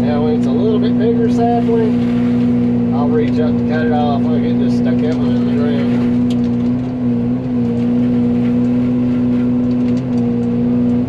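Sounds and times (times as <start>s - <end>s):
excavator mulcher droning: 0.0s - 11.0s.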